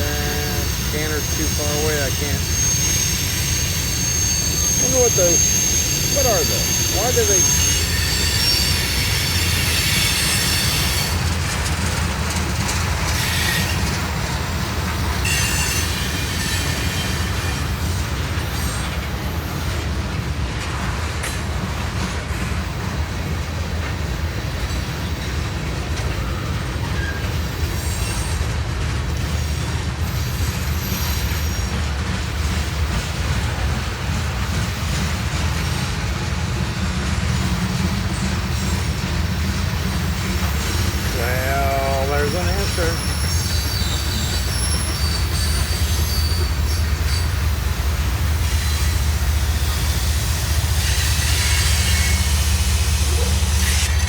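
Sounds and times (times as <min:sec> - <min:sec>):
train wheels squealing: 0:00.0 - 0:20.2, 0:23.9 - 0:54.0
train cars rumbling past: 0:00.0 - 0:54.0.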